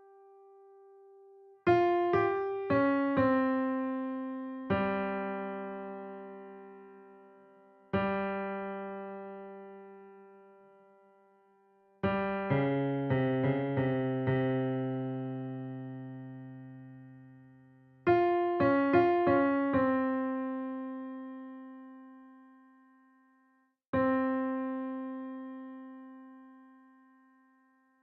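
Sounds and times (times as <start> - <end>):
piano music: 1.7 - 11.0, 12.0 - 23.4, 24.0 - 28.0.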